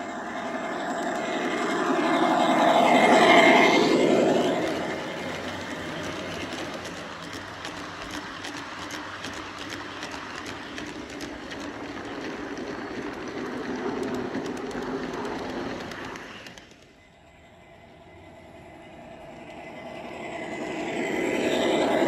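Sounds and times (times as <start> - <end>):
model train wheels rolling on rail: 0.0 - 22.0.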